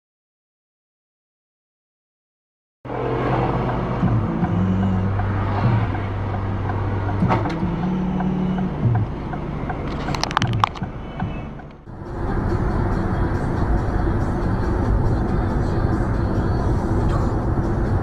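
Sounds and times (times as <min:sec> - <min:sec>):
road and engine noise inside car: 0:02.9 - 0:18.0
low held music notes: 0:03.0 - 0:18.0.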